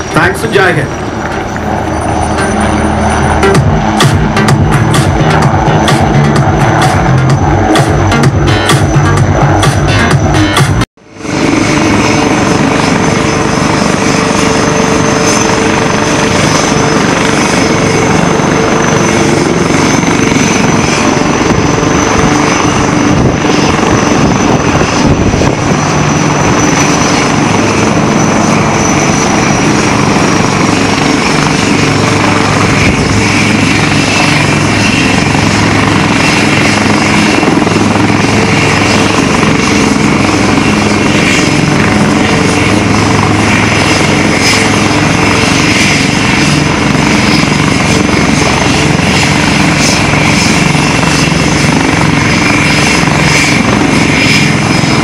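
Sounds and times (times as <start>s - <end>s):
helicopter rotor and turbine noise: 0.0s - 55.0s
high whine: 0.0s - 55.0s.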